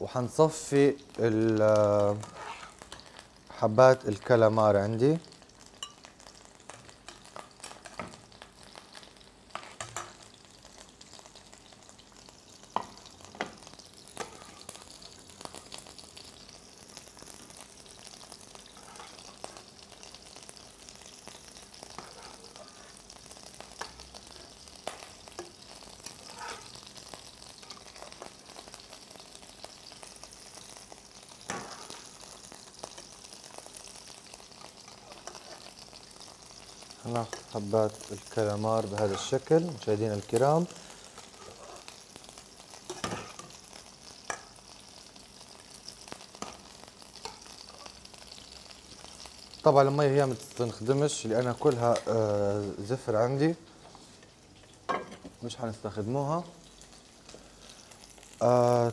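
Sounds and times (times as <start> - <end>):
shrimp sizzling in a pan: 0.0 - 58.9.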